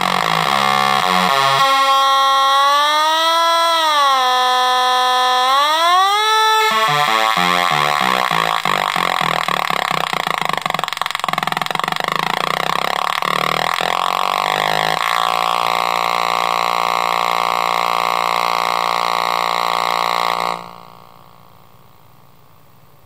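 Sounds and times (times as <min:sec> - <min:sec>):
synth buzzing: 0:00.0 - 0:22.2.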